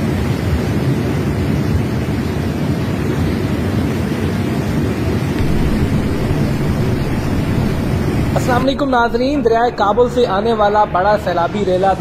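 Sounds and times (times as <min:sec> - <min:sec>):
river rushing in flood: 0:00.0 - 0:10.4.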